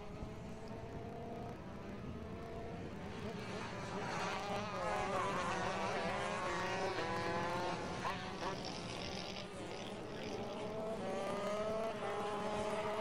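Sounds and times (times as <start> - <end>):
kart engines buzzing: 0.2 - 13.0.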